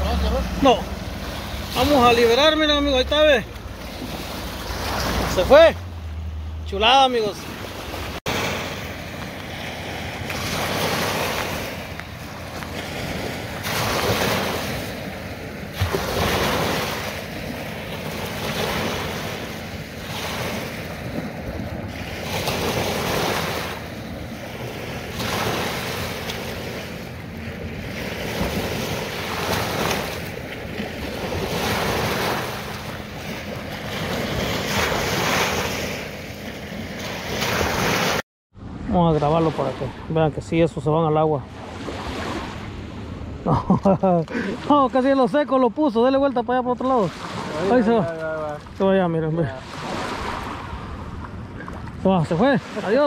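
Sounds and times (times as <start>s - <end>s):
small waves washing on shore: 0.0s - 38.2s, 41.3s - 43.4s, 44.0s - 53.0s.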